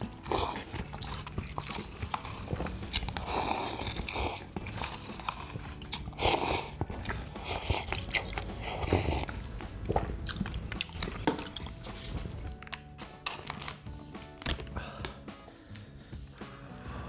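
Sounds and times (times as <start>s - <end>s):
person biting and chewing food: 0.0s - 14.8s.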